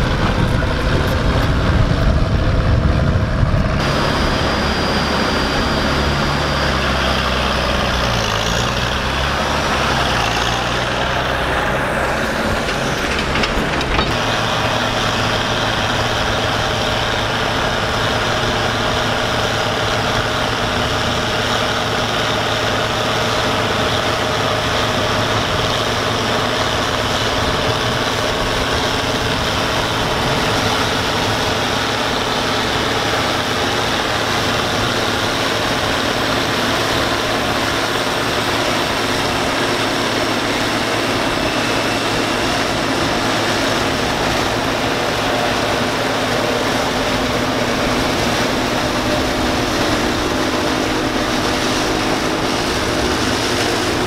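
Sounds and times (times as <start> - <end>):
tractor engine drone: 0.0 - 54.0
harvester chopping corn: 3.8 - 54.0.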